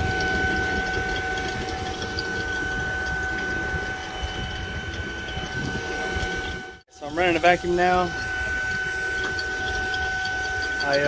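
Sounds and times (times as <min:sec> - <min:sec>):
vacuum pump whining: 0:00.0 - 0:11.0.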